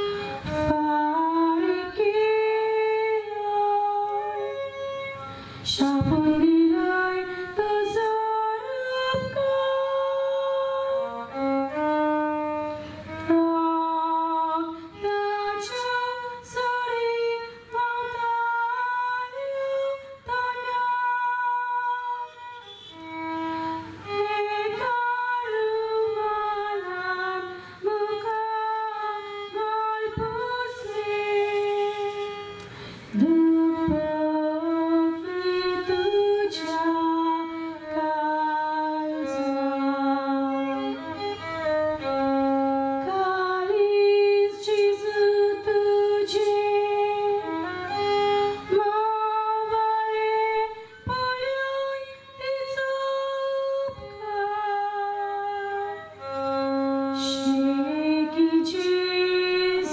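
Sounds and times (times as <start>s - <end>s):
violin: 0.0s - 59.9s
woman singing through loudspeakers: 0.0s - 59.9s.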